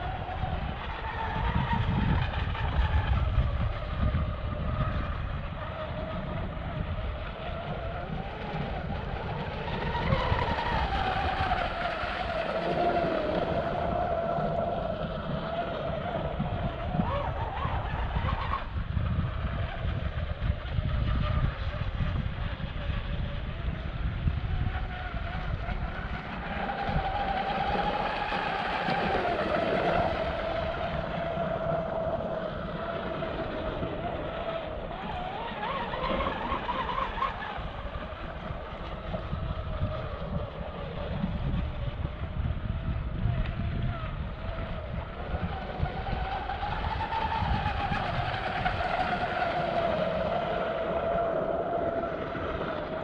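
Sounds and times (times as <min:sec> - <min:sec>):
rc boat motor whine: 0:00.0 - 0:53.0.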